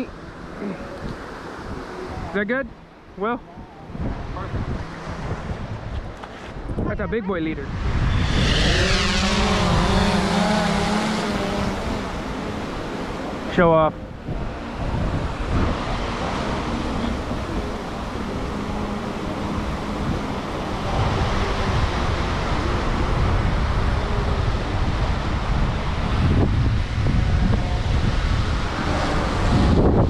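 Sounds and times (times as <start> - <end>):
ocean surf: 0.0 - 30.0
wind buffeting microphone: 0.0 - 30.0.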